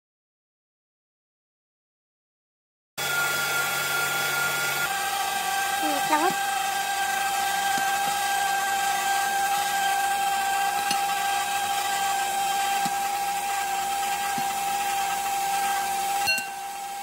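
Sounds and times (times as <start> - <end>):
stand mixer motor whine: 3.0 - 17.0.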